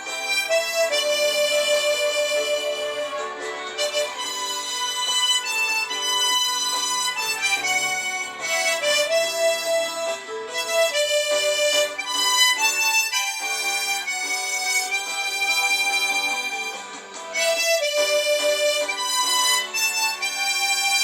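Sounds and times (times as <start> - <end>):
harmonica slow melody: 0.0 - 21.0.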